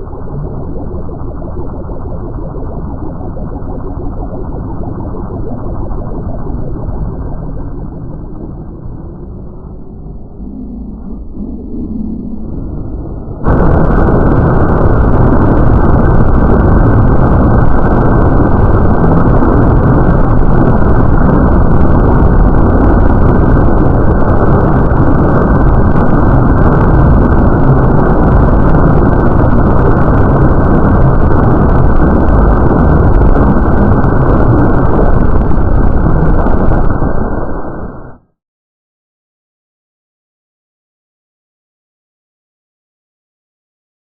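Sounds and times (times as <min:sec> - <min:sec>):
loud steady rumbling: 0:00.0 - 0:38.3.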